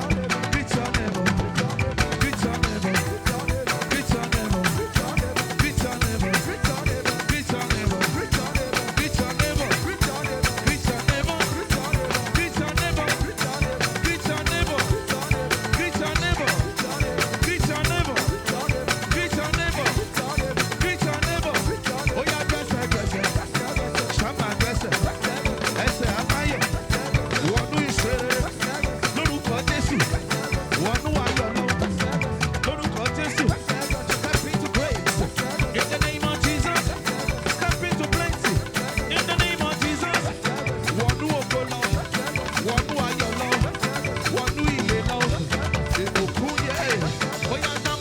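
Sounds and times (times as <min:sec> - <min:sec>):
driving drum beat: 0:00.0 - 0:48.0
live band playing gospel dance music: 0:00.0 - 0:48.0.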